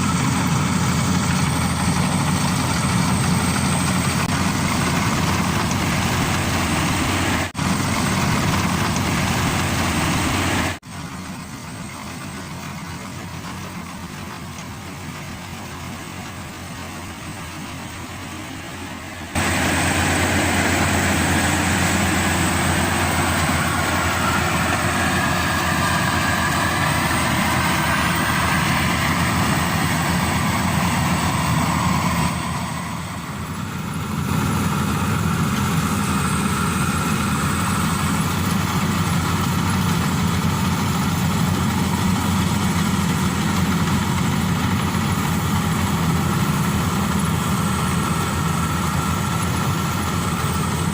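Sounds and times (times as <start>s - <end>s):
combine harvester machinery drone: 0.0s - 50.9s.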